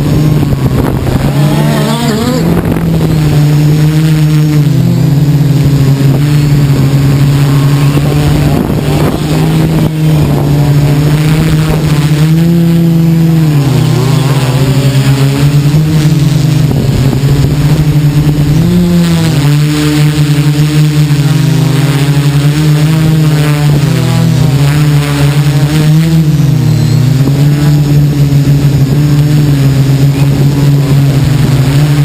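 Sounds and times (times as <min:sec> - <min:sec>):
drone motors humming: 0:00.0 - 0:32.0.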